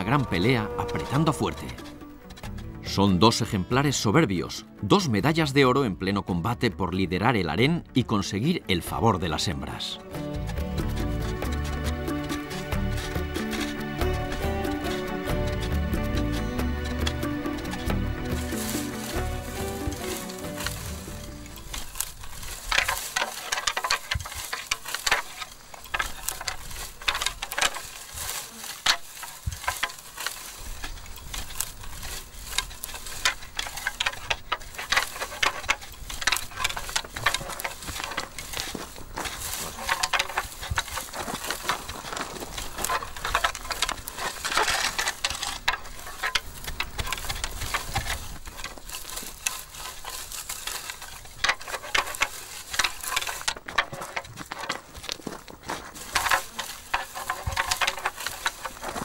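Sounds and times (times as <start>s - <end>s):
dry scrub crackling: 0.0s - 6.2s, 8.4s - 59.0s
antlers clacking and scraping: 0.0s - 59.0s.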